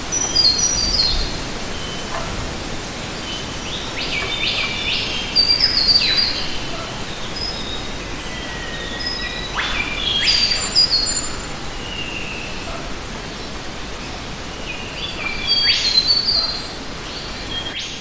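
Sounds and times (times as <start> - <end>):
birds calling: 0.0 - 18.0
outdoor background hiss: 0.0 - 18.0.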